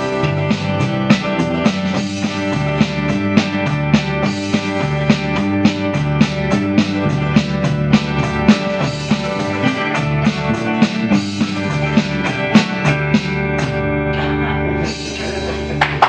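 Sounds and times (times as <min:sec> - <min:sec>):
country-gospel band playing: 0:00.0 - 0:16.0
drum kit: 0:00.0 - 0:16.0.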